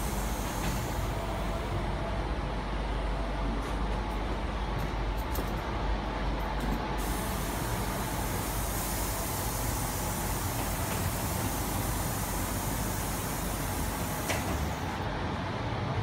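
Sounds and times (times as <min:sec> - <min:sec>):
electric train hum and hiss: 0:00.0 - 0:16.0.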